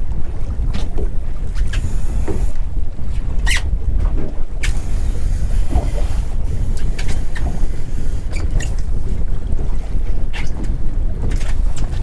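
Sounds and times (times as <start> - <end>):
choppy water around boat: 0.0 - 12.0
wind buffeting microphone: 0.0 - 12.0.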